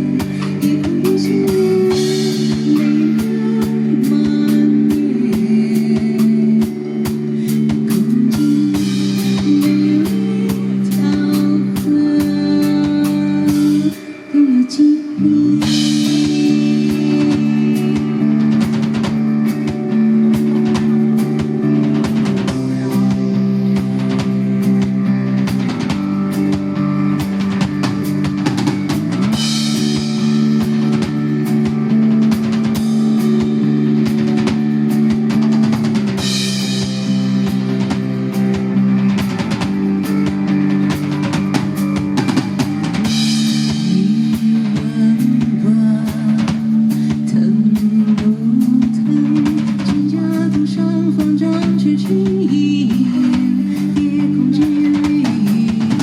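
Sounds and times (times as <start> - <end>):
drum kit beat: 0.0 - 14.2, 15.2 - 56.0
long held chords: 0.0 - 45.1
electric guitar: 0.0 - 56.0.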